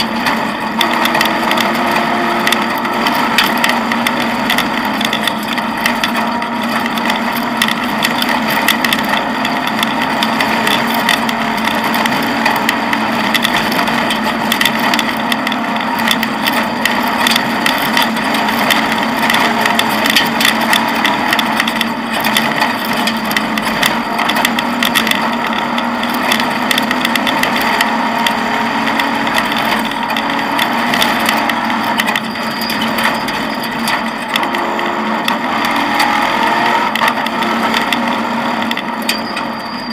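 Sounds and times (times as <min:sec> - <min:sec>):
car body rattling: 0:00.0 - 0:39.9
car engine running: 0:00.0 - 0:39.9.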